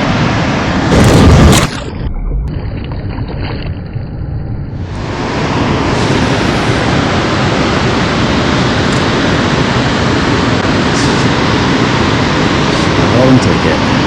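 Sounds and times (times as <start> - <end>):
wind on microphone: 0.0 - 13.1
water rushing: 0.0 - 14.0.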